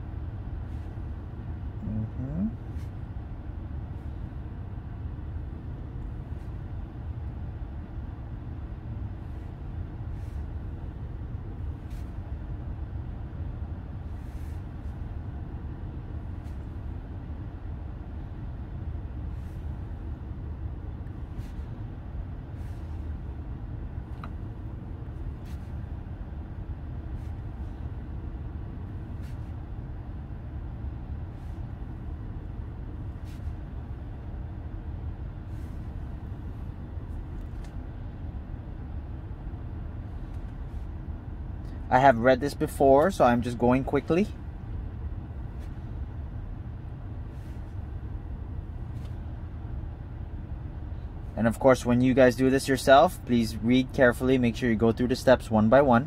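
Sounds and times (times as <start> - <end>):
car engine idling rumble: 0.0 - 56.0.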